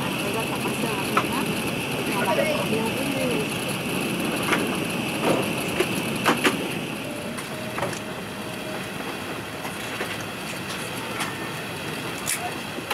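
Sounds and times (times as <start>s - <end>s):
aircraft cabin hiss: 0.0s - 12.9s.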